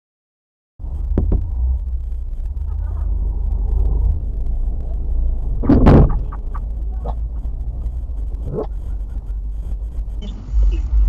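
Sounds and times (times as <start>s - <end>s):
traffic engines rumbling: 0.8s - 11.0s.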